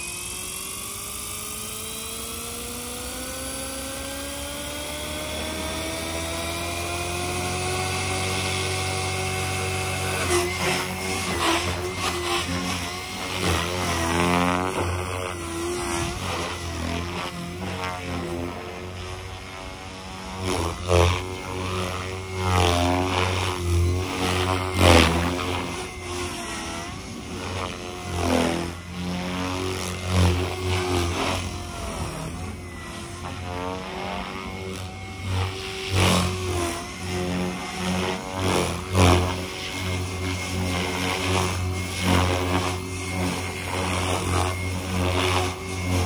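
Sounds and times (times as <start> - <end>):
electric motor whine: 0.0 - 46.0
helicopter rotor blade buzz: 0.0 - 46.0.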